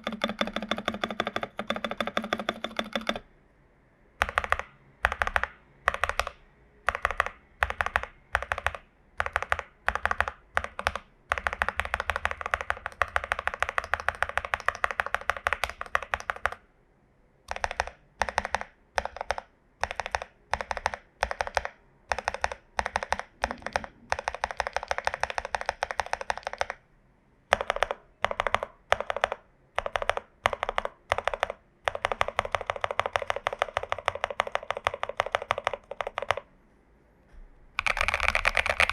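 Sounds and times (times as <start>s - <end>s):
mechanical keyboard typing: 0.0s - 3.3s, 4.2s - 16.6s, 17.5s - 26.8s, 27.5s - 36.5s, 37.8s - 38.9s.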